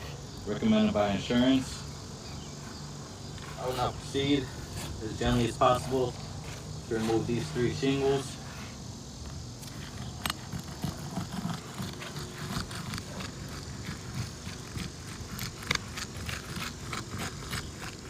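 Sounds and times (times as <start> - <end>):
tool scraping under shingles: 0.0 - 18.0.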